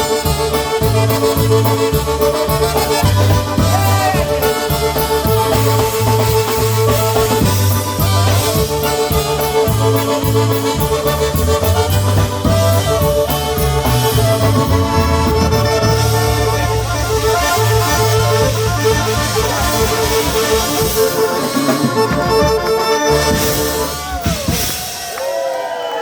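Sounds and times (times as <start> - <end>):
pulsing bass line: 0.0 - 24.7
accordion melody: 0.0 - 25.0.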